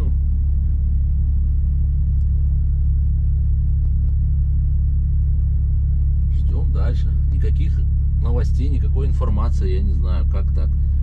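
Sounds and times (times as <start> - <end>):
truck cab rumble: 0.0 - 11.0.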